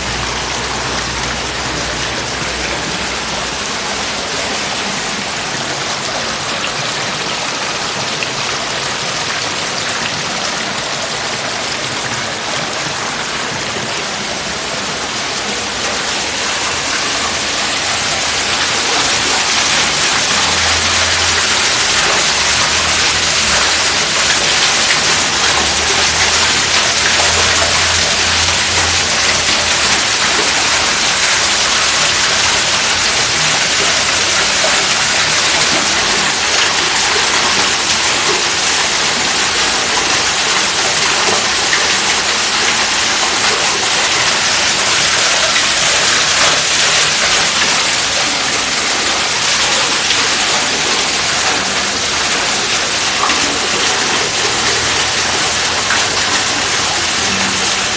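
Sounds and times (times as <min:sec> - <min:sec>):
heavy rain hissing: 0:00.0 - 0:57.9.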